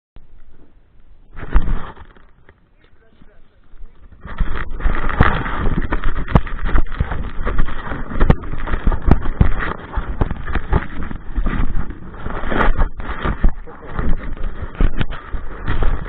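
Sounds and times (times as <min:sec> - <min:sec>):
microphone handling rumble: 0:00.2 - 0:16.0.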